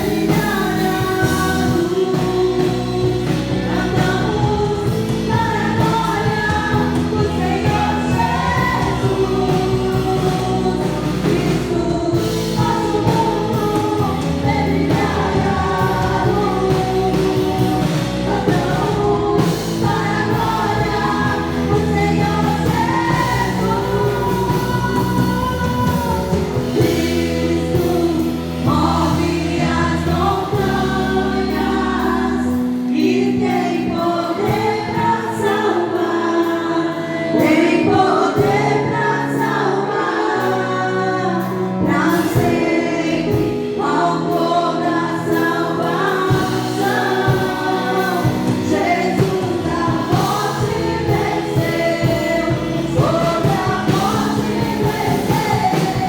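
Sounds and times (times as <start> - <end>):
deep bass: 0.0 - 35.5, 44.9 - 56.0
instrumental accompaniment: 0.0 - 56.0
voices singing gospel music: 0.0 - 56.0.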